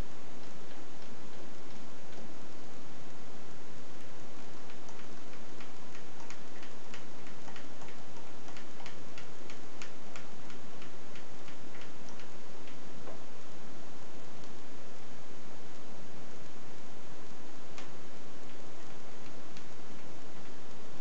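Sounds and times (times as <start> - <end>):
light ticking: 0.0 - 21.0
steady hiss: 0.0 - 21.0.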